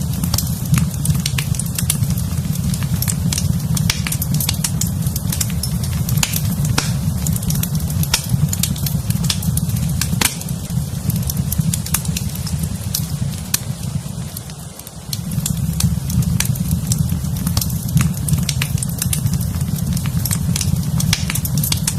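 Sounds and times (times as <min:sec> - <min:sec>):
fireplace fire crackling: 0:00.0 - 0:21.9.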